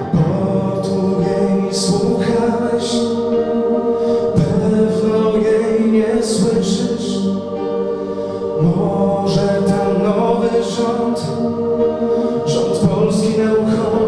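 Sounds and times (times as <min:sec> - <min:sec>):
man singing into a microphone: 0:00.0 - 0:07.7, 0:08.5 - 0:14.0
sustained musical backing: 0:00.0 - 0:14.0.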